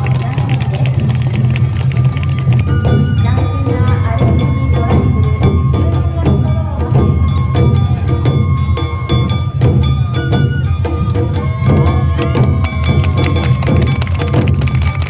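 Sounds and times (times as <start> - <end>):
brisk percussion strikes: 0.0 - 15.0.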